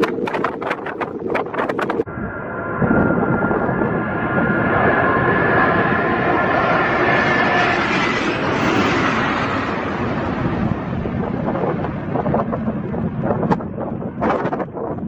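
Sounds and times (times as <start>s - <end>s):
high engine whine: 0.0s - 14.5s
jet airliner engine passing: 0.0s - 15.0s
wind buffeting microphone: 0.0s - 15.0s.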